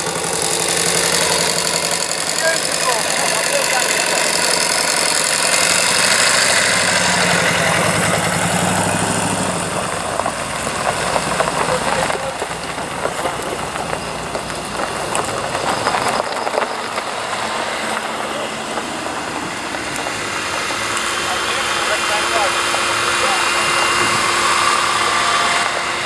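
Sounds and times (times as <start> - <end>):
car engine running at low revs: 0.0 - 26.0.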